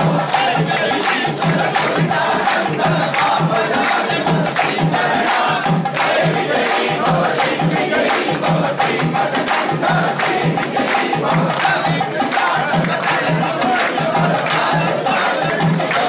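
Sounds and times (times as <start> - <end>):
crowd chanting: 0.0 - 16.0
drums beating steady rhythm: 0.0 - 16.0.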